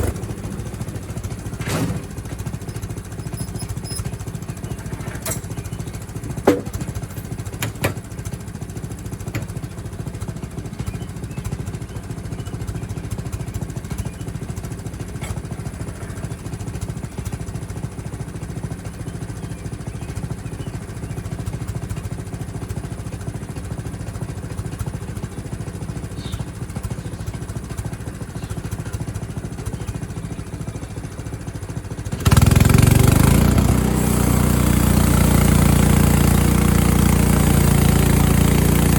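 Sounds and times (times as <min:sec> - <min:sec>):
sawmill gasoline engine running: 0:00.0 - 0:38.9.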